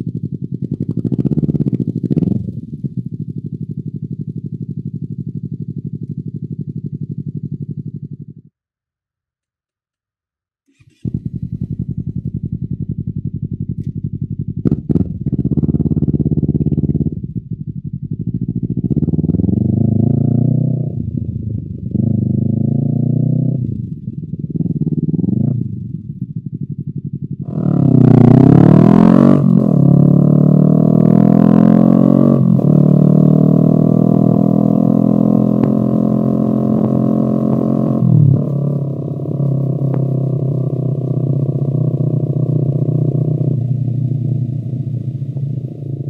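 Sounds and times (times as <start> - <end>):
motorcycle engine revving: 0.0 - 8.5, 10.7 - 46.0.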